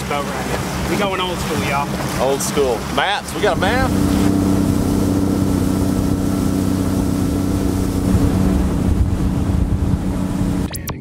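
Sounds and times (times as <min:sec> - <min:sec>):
outboard motor droning: 0:00.0 - 0:10.8
water rushing: 0:00.0 - 0:10.8
wind: 0:00.0 - 0:11.0.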